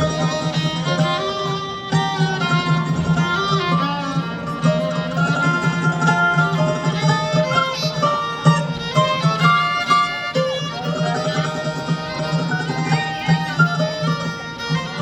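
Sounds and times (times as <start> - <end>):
fiddle melody: 0.0 - 15.0
guitar: 0.0 - 15.0.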